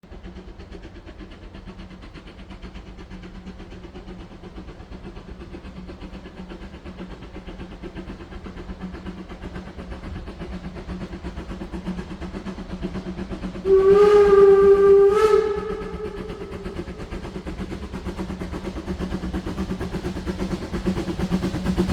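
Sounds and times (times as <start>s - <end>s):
steam locomotive chuffing: 0.0s - 21.9s.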